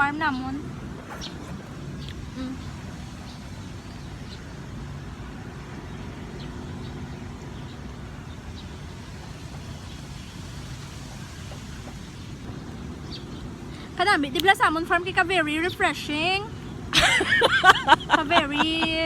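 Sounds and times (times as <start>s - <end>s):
low rumble of road traffic: 0.0s - 19.0s.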